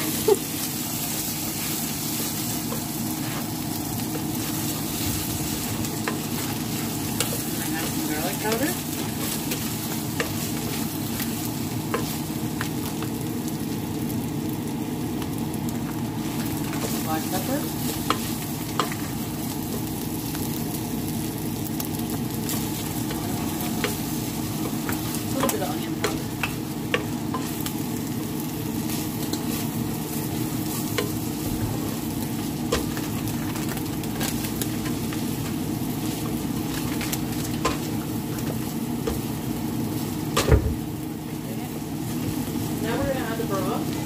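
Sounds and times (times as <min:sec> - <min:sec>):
food sizzling in a pot: 0:00.0 - 0:44.0.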